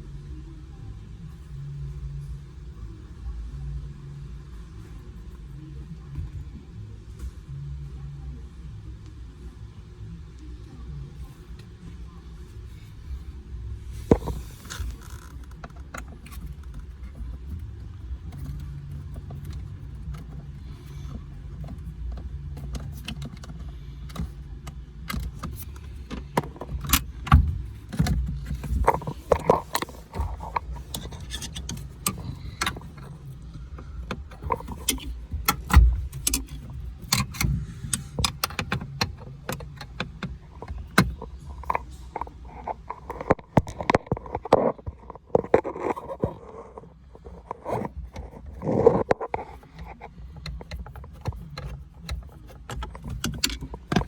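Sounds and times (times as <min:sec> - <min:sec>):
low vehicle hum: 0:00.0 - 0:54.0.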